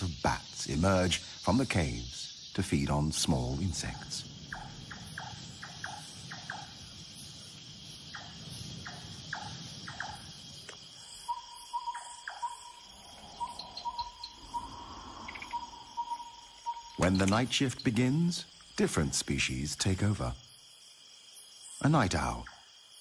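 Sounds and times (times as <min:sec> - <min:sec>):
crickets and insects droning: 0:00.0 - 0:23.0.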